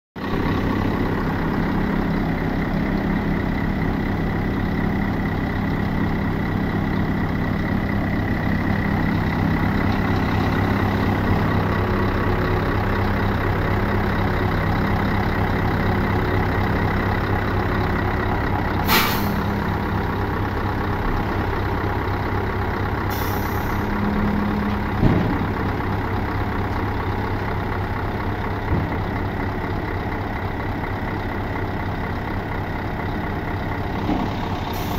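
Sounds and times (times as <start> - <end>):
diesel truck engine running: 0.2 - 34.9.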